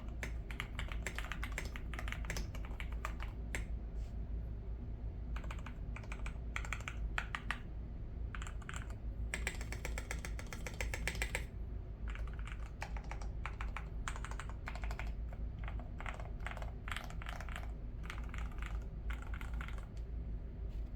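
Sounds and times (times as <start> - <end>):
mechanical keyboard typing: 0.0 - 3.7, 5.4 - 7.7, 8.4 - 11.5, 12.1 - 20.0.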